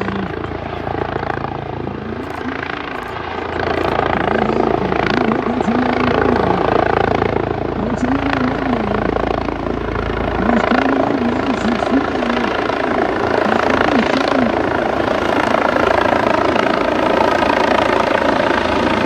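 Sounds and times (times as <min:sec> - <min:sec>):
helicopter rotor and engine drone: 0:00.0 - 0:19.0.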